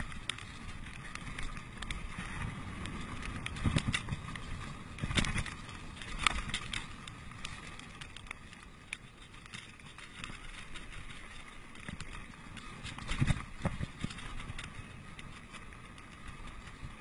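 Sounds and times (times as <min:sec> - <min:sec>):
bike knocking and rattling: 0:00.0 - 0:17.0
bike tyres on dirt: 0:00.0 - 0:17.0.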